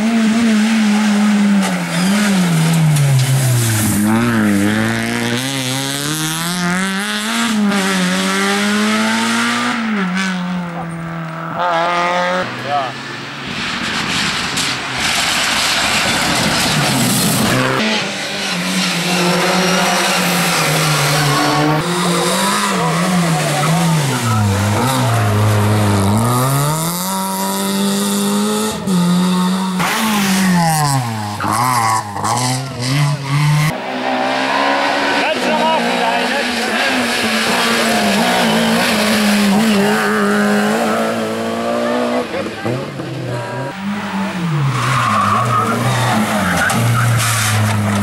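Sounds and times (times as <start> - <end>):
rally car engine at high revs: 0.0 - 48.0
tyre and road noise: 0.0 - 48.0.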